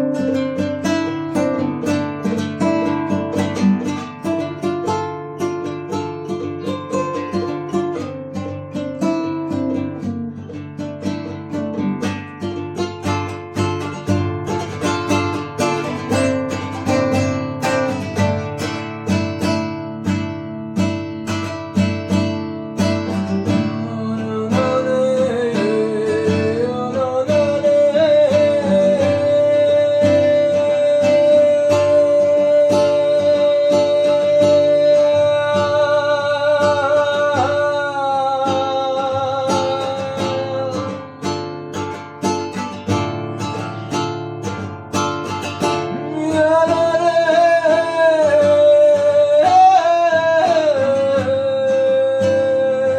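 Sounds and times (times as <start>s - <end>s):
person singing wordlessly: 0.0s - 19.9s, 21.5s - 43.9s, 45.2s - 52.9s
acoustic guitar strumming: 0.0s - 52.9s.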